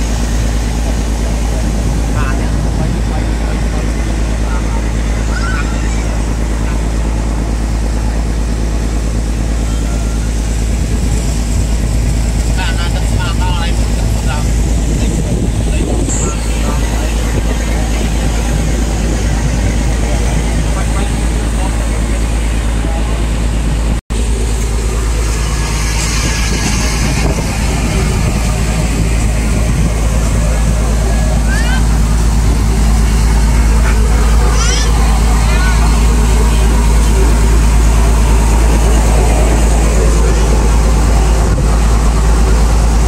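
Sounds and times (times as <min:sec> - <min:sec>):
boat engine drone: 0:00.0 - 0:43.0.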